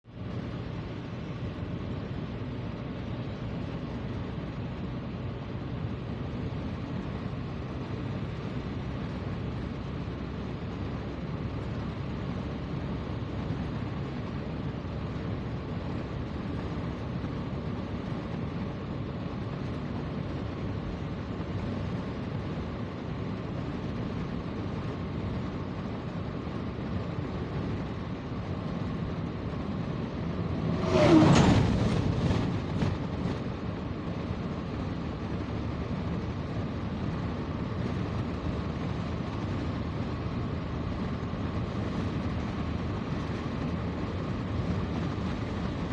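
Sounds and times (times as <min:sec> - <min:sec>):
road noise: 0:00.0 - 0:45.9
vehicle engine hum: 0:00.0 - 0:45.9.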